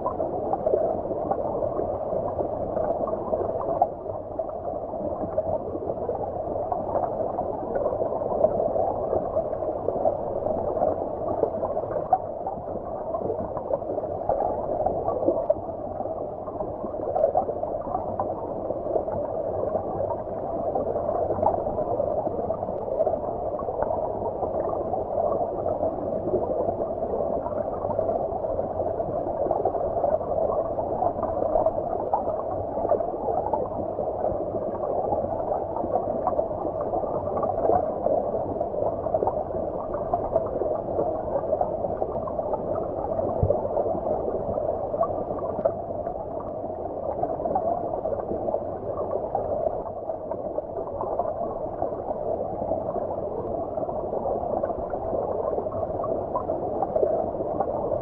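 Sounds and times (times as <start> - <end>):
bubbling: 0.0 - 58.0
underwater stream gurgling: 0.0 - 58.0.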